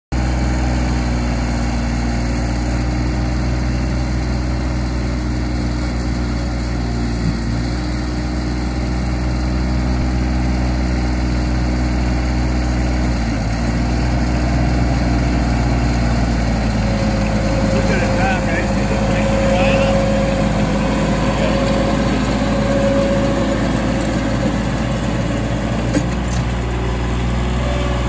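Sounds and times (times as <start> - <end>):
tractor engine running: 0.1 - 28.0.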